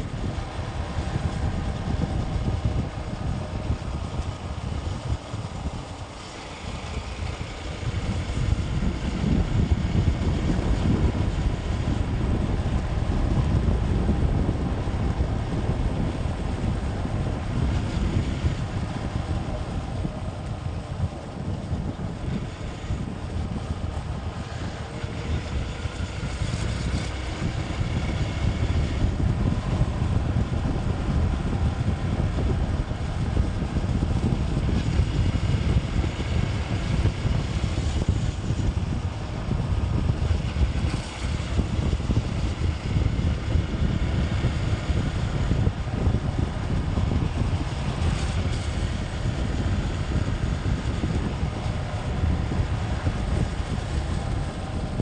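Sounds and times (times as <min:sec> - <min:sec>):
road noise: 0:00.0 - 0:55.0
wind buffeting microphone: 0:00.0 - 0:55.0.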